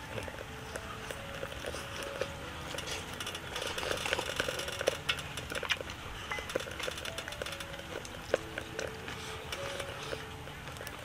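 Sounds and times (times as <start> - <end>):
soft chewing: 0.0 - 11.0
chopsticks clicking against bowl: 0.7 - 10.2.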